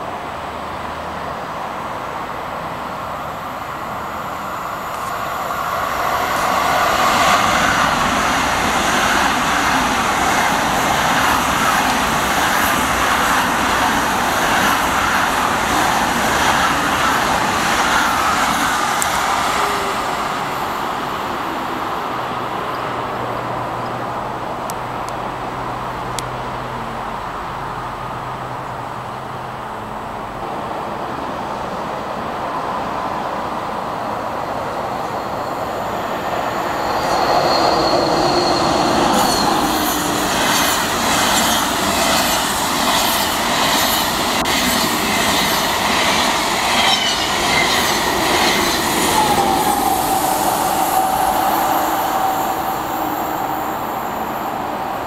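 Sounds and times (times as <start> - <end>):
high-speed train passing: 0.0 - 55.0.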